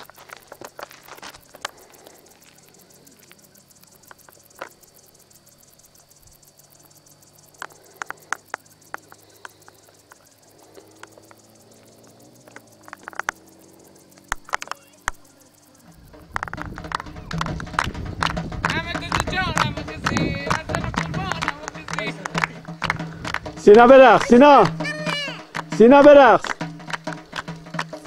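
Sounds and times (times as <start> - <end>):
faint steady hum: 0.0 - 23.6.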